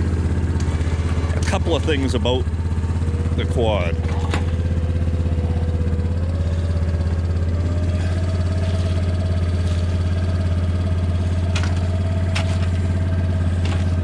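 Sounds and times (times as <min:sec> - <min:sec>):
single-cylinder engine idling: 0:00.0 - 0:14.0.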